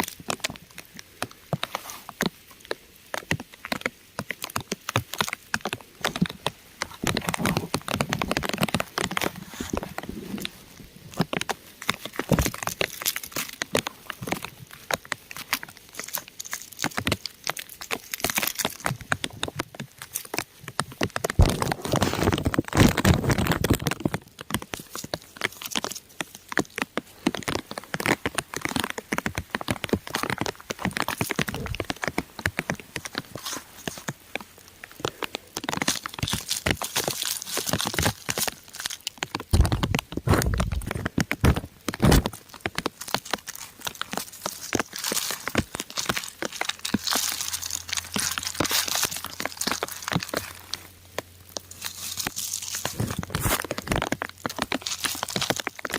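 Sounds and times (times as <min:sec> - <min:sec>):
rain pattering on rock: 0:00.0 - 0:55.9.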